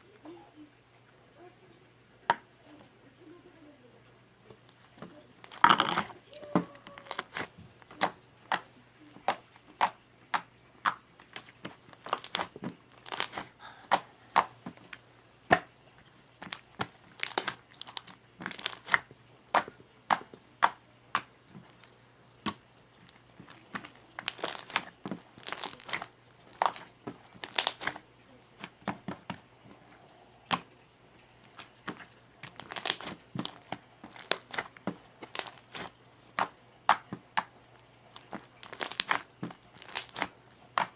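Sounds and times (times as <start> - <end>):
slime bubbles popping: 4.7 - 14.8, 16.4 - 40.9.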